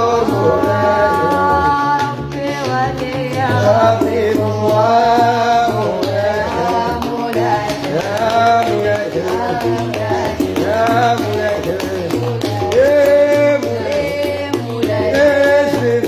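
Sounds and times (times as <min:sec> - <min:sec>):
young women singing together: 0:00.0 - 0:16.0.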